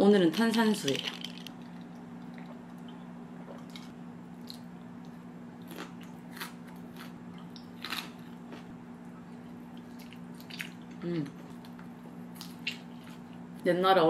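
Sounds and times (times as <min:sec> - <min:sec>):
low steady hum: 0:00.0 - 0:14.0
person chewing salad: 0:01.2 - 0:08.8, 0:09.4 - 0:13.4.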